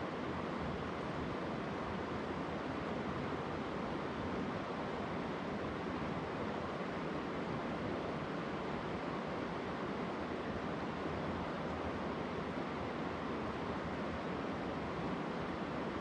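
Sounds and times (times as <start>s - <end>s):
mountain river flowing: 0.0s - 16.0s.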